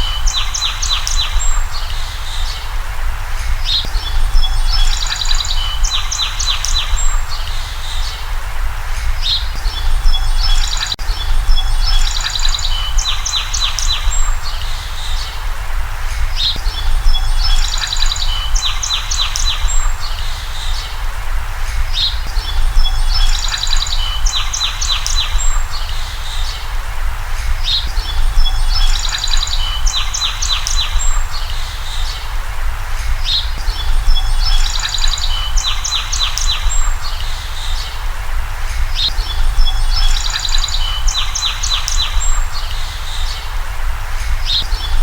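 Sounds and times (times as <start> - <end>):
birds chirping and trilling: 0.0 - 45.0.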